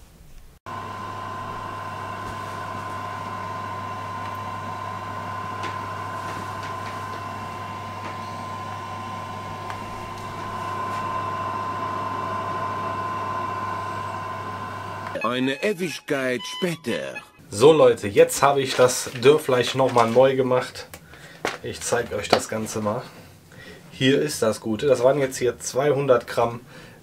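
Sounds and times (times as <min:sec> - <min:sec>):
dehydrator fan whine: 0:00.7 - 0:15.2, 0:17.4 - 0:27.0.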